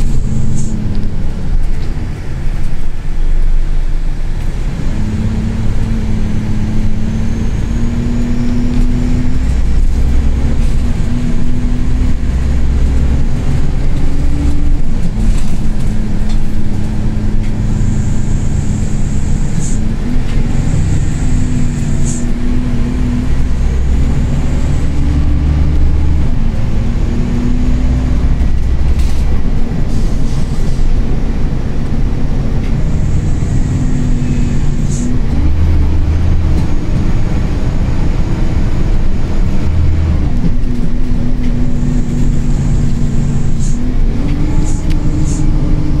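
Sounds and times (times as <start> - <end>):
bus diesel engine running: 0.0 - 46.0.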